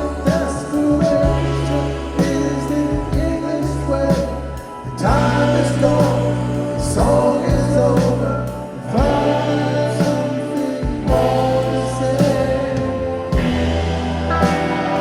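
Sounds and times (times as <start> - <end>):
rock music over loudspeakers: 0.0 - 15.0
steady bass line: 0.0 - 15.0.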